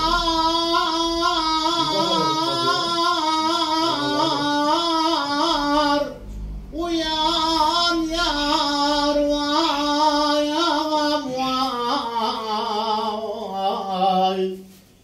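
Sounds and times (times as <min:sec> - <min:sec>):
man singing unaccompanied folk melody: 0:00.0 - 0:14.8.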